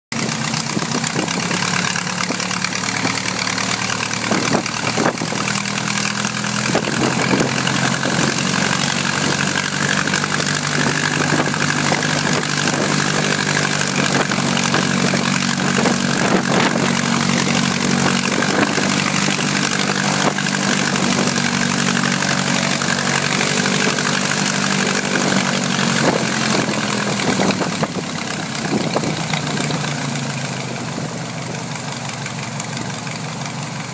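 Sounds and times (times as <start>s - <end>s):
aircraft engine idling: 0.1s - 33.9s.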